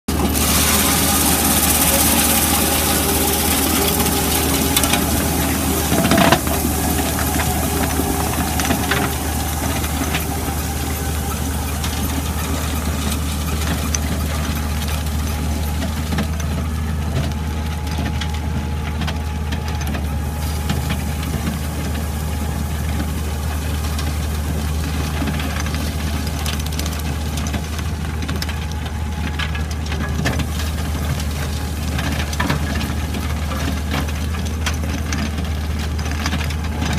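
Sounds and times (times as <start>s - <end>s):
machine engine running: 0.0s - 36.9s.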